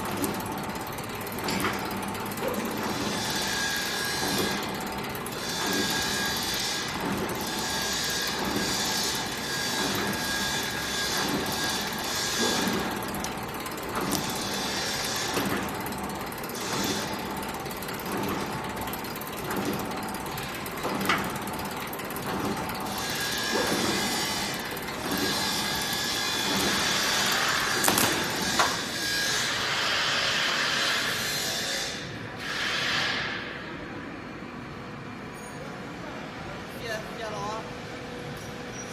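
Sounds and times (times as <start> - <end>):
mechanical clatter: 0.0 - 31.2
machine stroke: 0.0 - 33.7.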